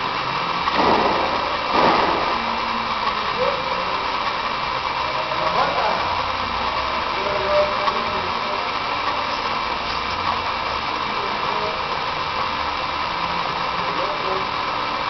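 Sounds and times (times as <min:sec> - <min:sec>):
machine whirring: 0:00.0 - 0:15.0.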